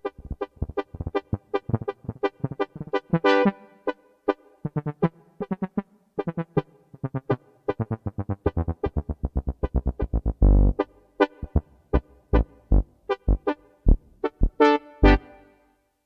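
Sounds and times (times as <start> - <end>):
keyboard tuba notes: 0.0 - 15.7.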